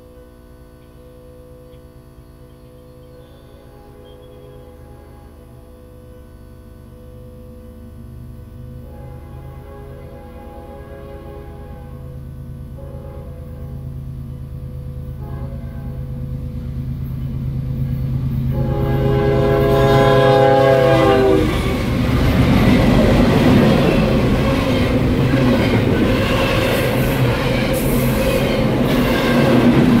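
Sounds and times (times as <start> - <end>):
locomotive horn chord: 0.0 - 30.0
train wheel and rail noise: 0.0 - 30.0.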